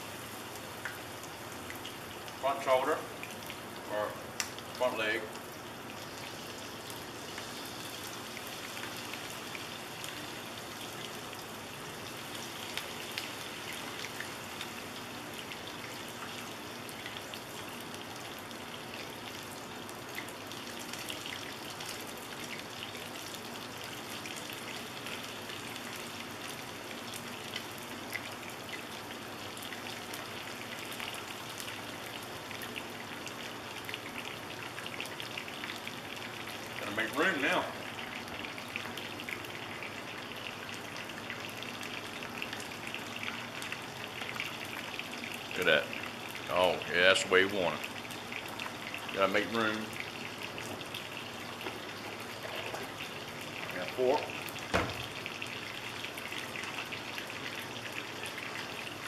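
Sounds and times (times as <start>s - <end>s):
meat frying in hot oil: 0.0s - 59.0s.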